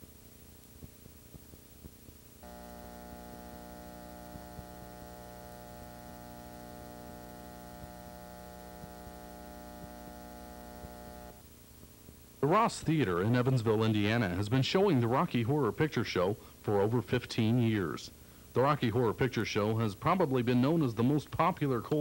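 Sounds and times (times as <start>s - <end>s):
buzzy electrical mains hum: 0.0s - 22.0s
faint low hum: 0.0s - 22.0s.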